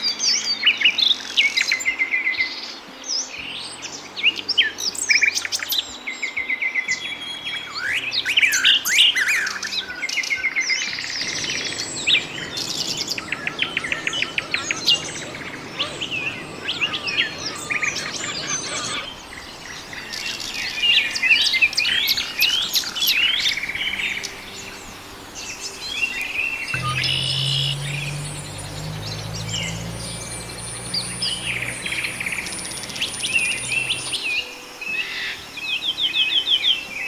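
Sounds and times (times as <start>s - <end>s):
chorus of small birds chirping: 0.0s - 37.0s.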